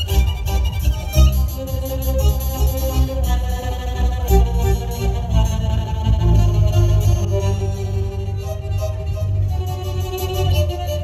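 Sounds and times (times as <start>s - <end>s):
violin playing: 0.0s - 11.0s.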